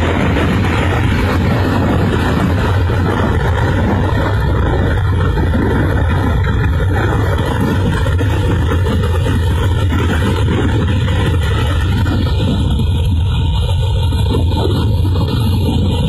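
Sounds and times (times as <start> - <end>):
water rushing with low rumble: 0.0 - 16.0.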